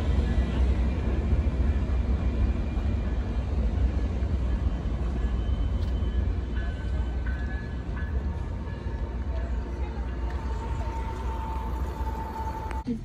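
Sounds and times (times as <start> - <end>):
train rumbling away: 0.0 - 13.0.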